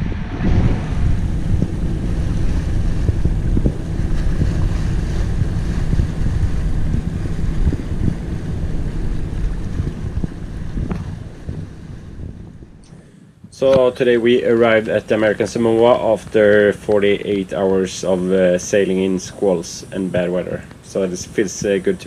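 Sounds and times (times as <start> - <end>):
hiss of wind and water: 0.0 - 22.0
wind buffeting microphone: 0.0 - 22.0.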